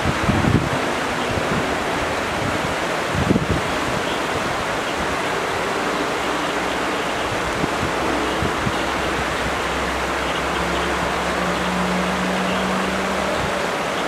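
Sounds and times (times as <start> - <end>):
river rushing over rapids: 0.0 - 14.0
wind buffeting microphone: 0.0 - 14.0.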